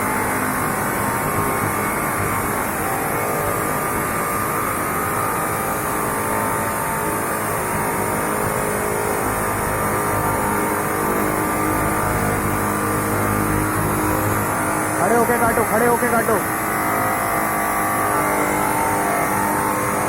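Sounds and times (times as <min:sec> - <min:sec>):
chop saw motor whine: 0:00.0 - 0:20.0.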